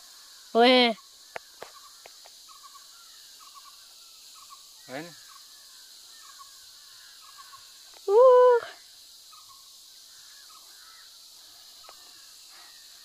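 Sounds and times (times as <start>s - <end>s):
faint bird calls: 0.8s - 13.0s.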